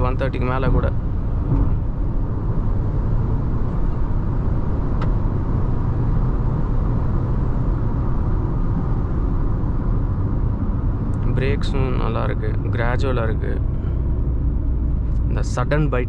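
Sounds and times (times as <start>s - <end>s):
car road noise at highway speed: 0.0s - 16.0s.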